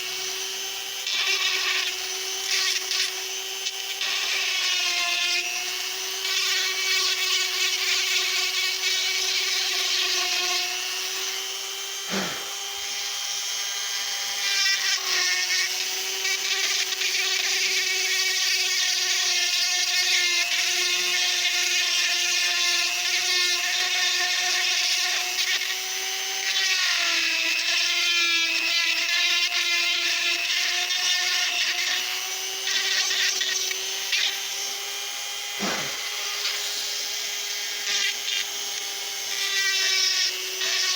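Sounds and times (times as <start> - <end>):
die grinder high whine: 0.0 - 40.9.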